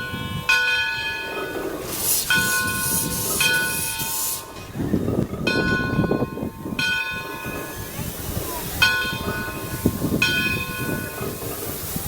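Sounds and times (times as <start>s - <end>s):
locomotive bell ringing: 0.0s - 4.6s, 5.4s - 11.9s
steam hissing: 1.2s - 12.0s.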